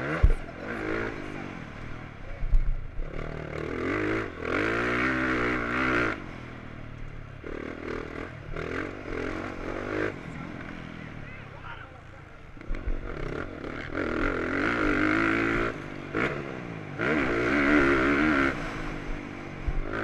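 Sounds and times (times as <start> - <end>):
motocross bike engine revving: 0.0 - 11.6, 12.3 - 20.0.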